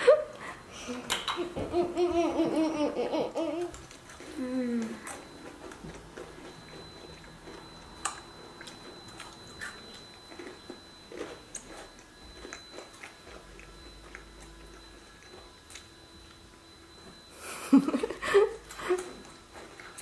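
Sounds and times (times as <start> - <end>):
children chewing and crunching: 0.0 - 20.0.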